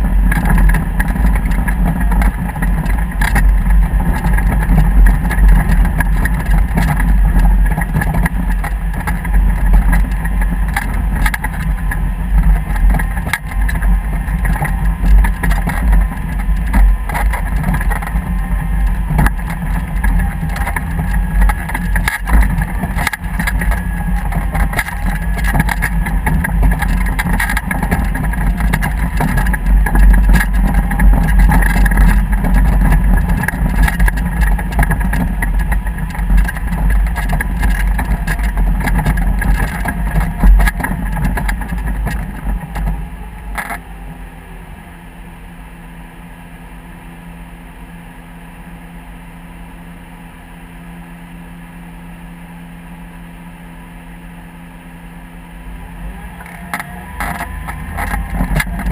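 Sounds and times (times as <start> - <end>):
wind rumbling on microphone: 0.0 - 45.8, 55.8 - 58.9
motorboat engine running: 0.0 - 58.9.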